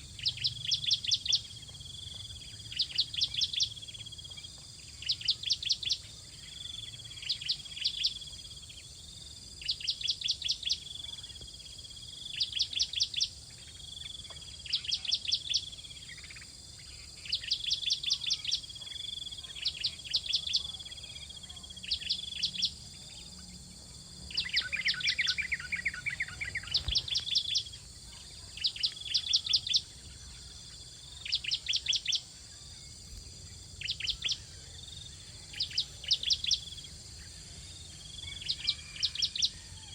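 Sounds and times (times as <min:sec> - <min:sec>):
insects hissing: 0:00.0 - 0:39.7.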